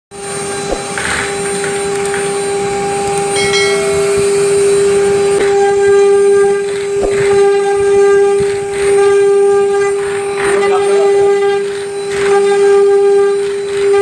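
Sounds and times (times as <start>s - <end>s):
router spindle whine: 0.1s - 14.0s.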